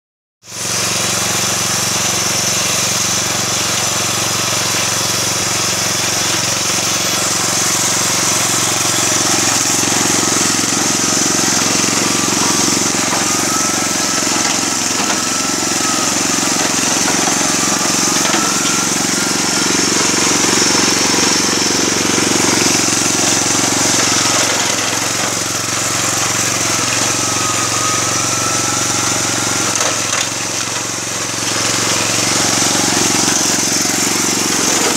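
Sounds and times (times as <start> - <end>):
push mower engine running: 0.4 - 34.9.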